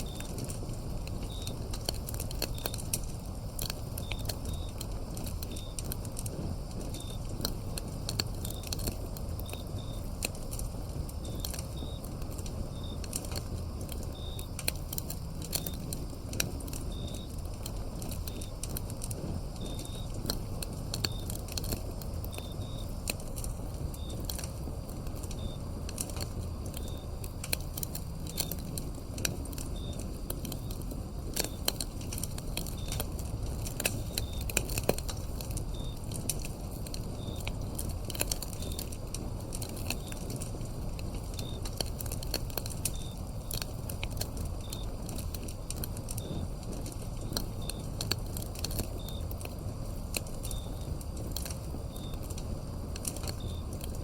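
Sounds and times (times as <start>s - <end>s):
crickets chirping: 0.0s - 54.0s
wood fire crackling and popping: 0.0s - 54.0s.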